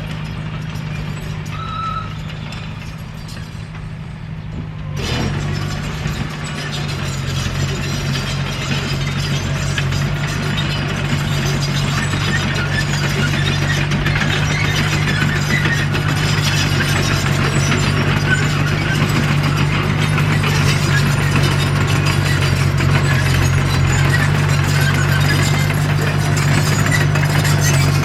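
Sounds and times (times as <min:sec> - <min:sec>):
bulldozer diesel engine under load: 0:00.0 - 0:28.0
steel tracks clanking and squeaking: 0:00.0 - 0:28.0.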